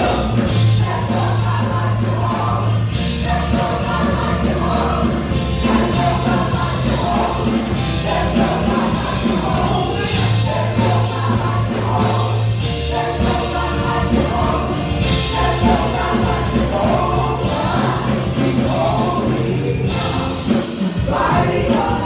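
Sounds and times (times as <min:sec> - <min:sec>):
instrumental backing: 0:00.0 - 0:22.0
voices singing together: 0:00.0 - 0:22.0.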